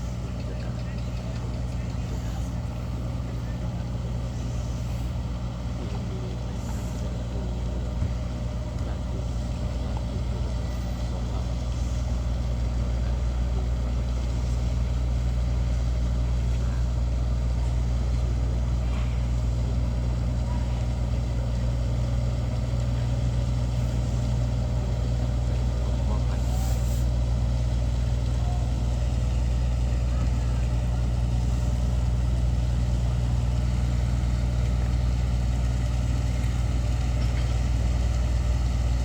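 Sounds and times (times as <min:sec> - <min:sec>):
large engine droning: 0:00.0 - 0:39.0.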